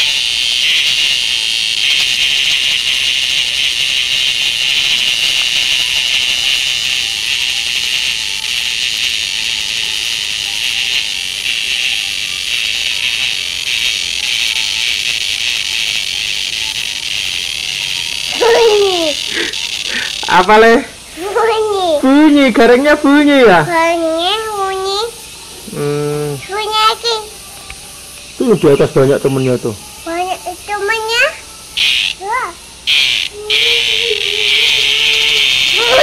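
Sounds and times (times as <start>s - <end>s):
cicada buzzing: 0.0s - 36.0s.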